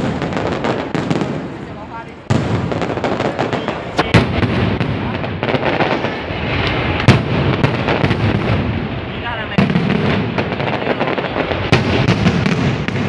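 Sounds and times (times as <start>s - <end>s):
dense crackle of small fireworks: 0.0s - 13.0s
firework shells booming: 0.0s - 13.0s.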